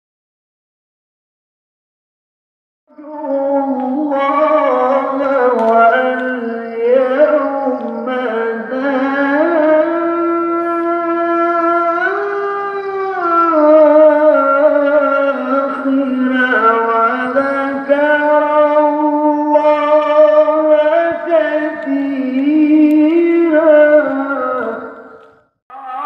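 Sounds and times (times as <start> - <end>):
melodic recitation over loudspeaker: 2.9 - 26.0.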